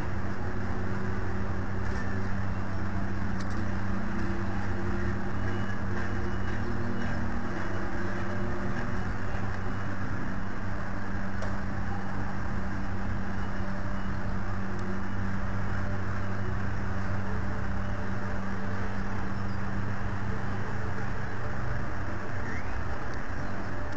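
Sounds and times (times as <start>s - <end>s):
outdoor microphone hum and noise: 0.0s - 23.9s.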